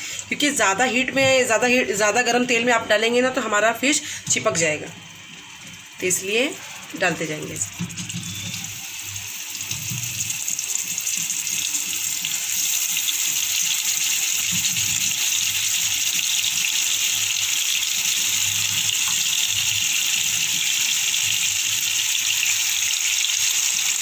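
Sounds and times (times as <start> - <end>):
fish sizzling in oil: 4.0 - 24.0.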